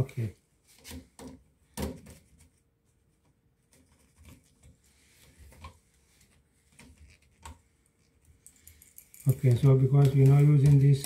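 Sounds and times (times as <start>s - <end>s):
small clicks and rubs: 2.0s - 11.0s.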